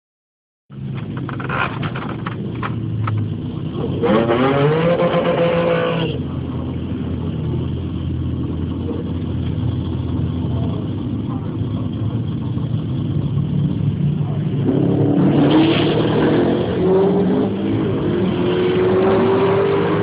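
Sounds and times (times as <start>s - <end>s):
car engine idling and revving: 0.7s - 20.0s.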